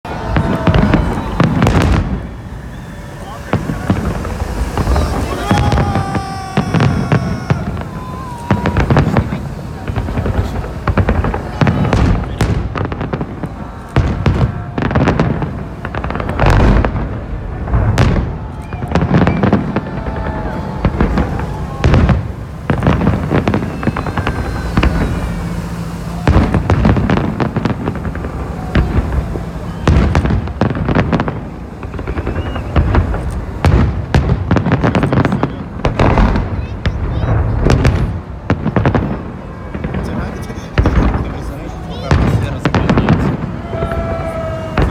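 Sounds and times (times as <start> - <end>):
fireworks bangs and booms: 0.0 - 44.9
fireworks crackling: 0.0 - 44.9.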